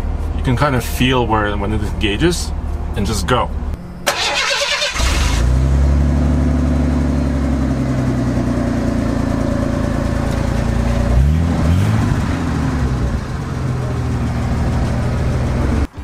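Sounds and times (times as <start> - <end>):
truck engine idling: 0.0 - 15.9.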